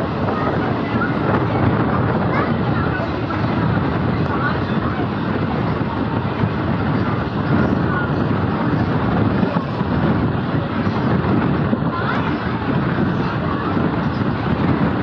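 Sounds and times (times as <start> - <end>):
train wheels rumbling on track: 0.0 - 15.0
wind on microphone: 0.0 - 15.0.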